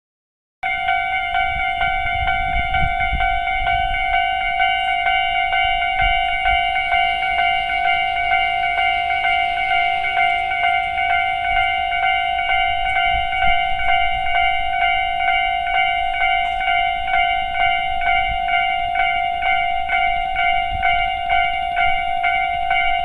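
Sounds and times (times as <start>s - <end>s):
level crossing alarm ringing: 0.6s - 23.0s.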